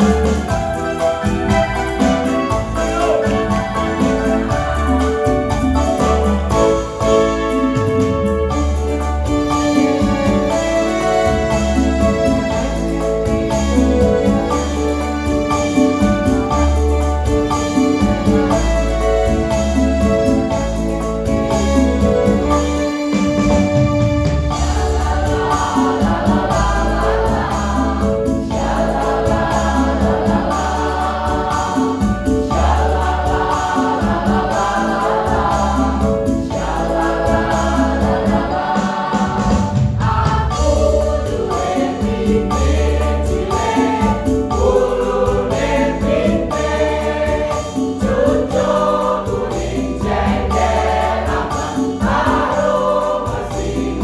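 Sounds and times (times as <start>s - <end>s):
instrumental backing with bass: 0.0s - 54.0s
mixed choir singing: 0.0s - 54.0s.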